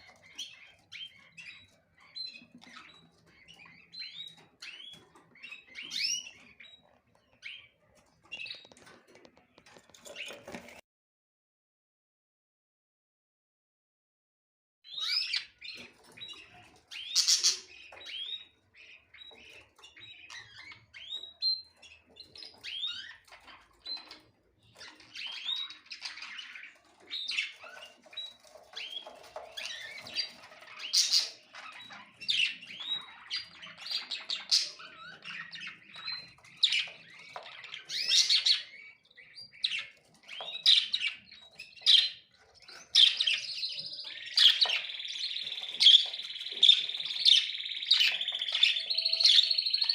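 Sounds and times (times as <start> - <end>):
small birds chirping and twittering: 0.0 - 10.8, 14.8 - 49.9.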